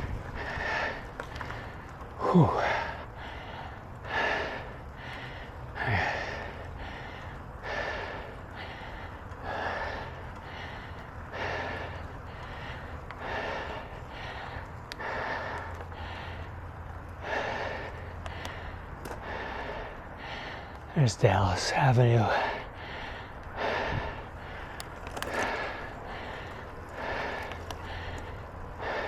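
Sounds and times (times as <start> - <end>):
person breathing hard: 0.0 - 29.0
steady low hum: 0.0 - 29.0.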